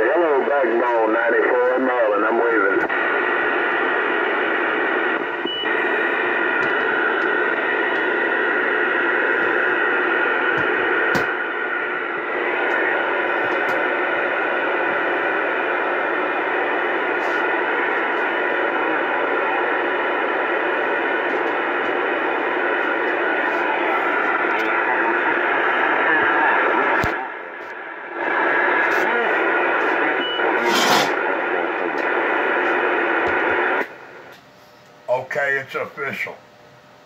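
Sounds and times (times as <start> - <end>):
radio click: 0.0 - 34.5
radio static hiss: 0.0 - 36.4.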